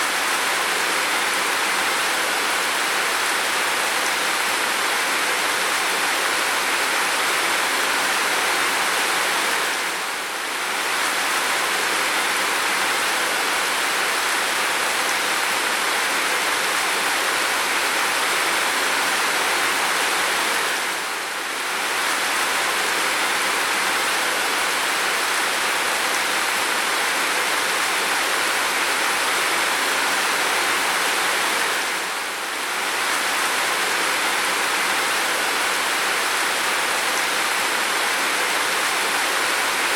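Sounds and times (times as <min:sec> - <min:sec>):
pounding rain: 0:00.0 - 0:39.9.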